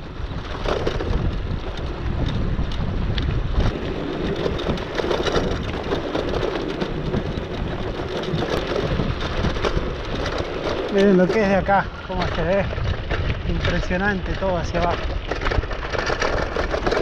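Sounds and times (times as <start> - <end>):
bicycle clicks and rattles: 0.0 - 17.0
tyres rolling on dirt road: 0.0 - 17.0
wind buffeting microphone: 0.0 - 17.0.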